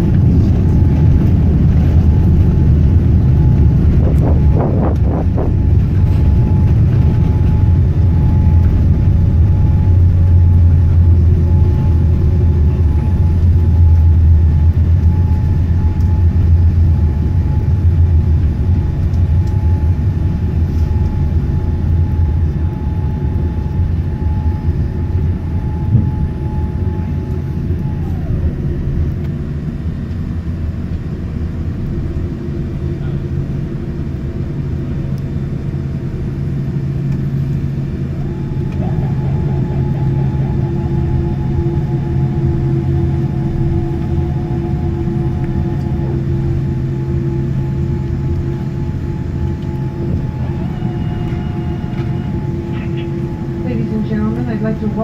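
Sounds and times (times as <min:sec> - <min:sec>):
airliner low rumble: 0:00.0 - 0:55.0
jet engine whine: 0:00.0 - 0:55.0.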